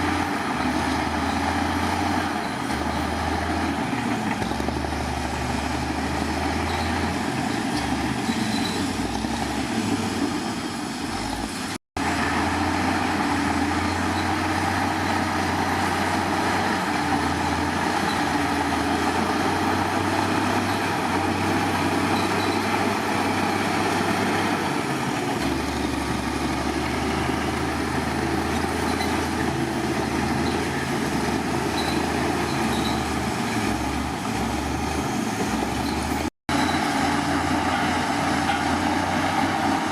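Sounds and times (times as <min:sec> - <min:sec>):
diesel engine rumbling: 0:00.0 - 0:39.9.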